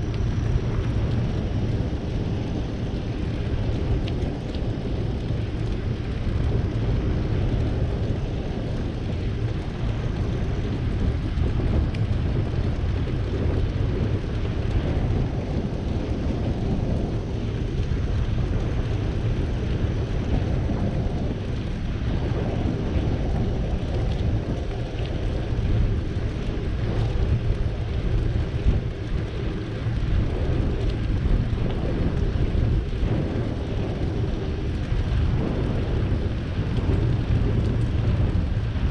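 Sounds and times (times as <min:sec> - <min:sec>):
bicycle tyre rumble: 0:00.0 - 0:38.9
wind buffeting microphone: 0:00.0 - 0:38.9.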